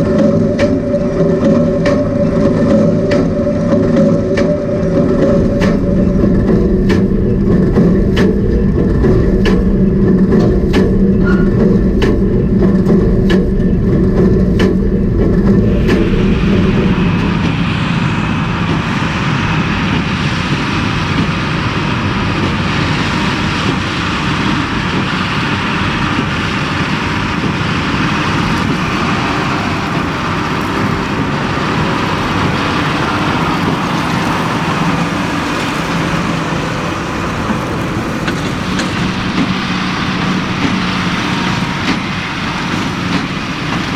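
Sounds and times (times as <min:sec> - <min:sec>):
baler running noisily: 0:00.0 - 0:43.9
tractor engine hum: 0:00.0 - 0:43.9.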